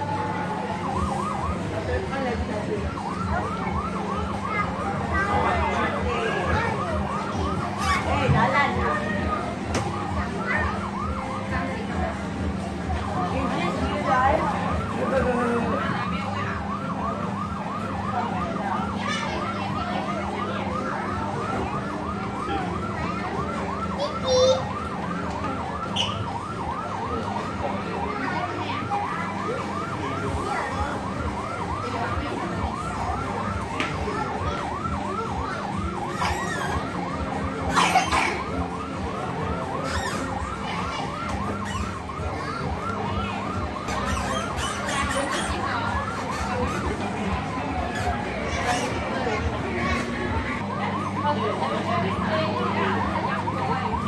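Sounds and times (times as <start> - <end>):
electronic fire-engine siren: 0.0 - 54.0.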